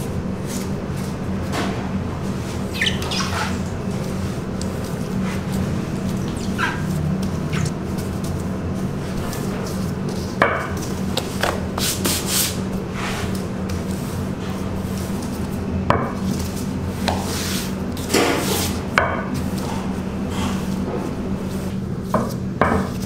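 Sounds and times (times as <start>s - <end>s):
rolling pin scraping dough: 0.0s - 23.0s
steady low hum: 0.0s - 23.0s.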